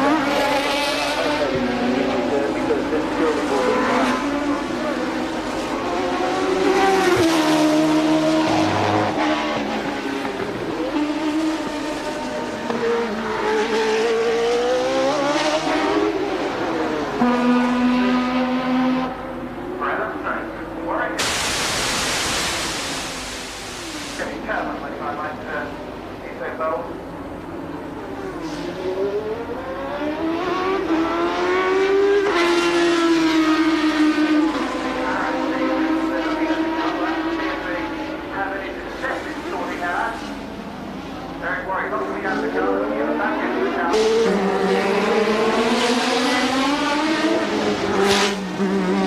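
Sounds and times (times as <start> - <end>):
racing car engine: 0.0 - 49.0.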